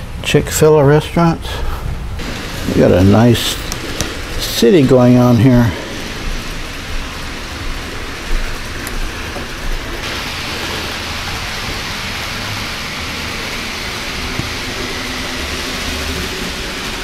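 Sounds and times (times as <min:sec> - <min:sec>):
model train hissing rumble: 0:00.0 - 0:17.0.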